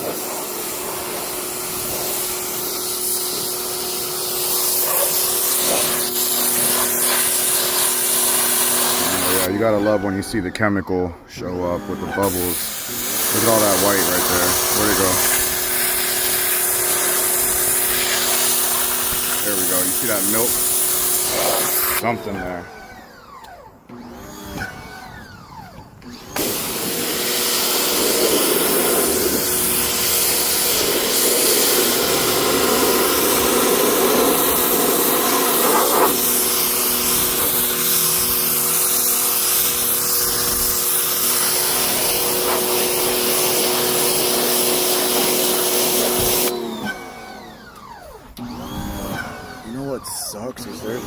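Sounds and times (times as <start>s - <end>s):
shop vacuum sucking water: 0.0s - 51.0s.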